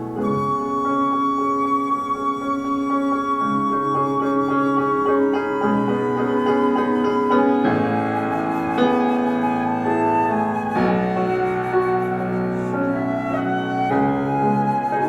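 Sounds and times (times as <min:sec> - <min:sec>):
flute playing: 0:00.0 - 0:15.0
piano playing: 0:00.0 - 0:15.0.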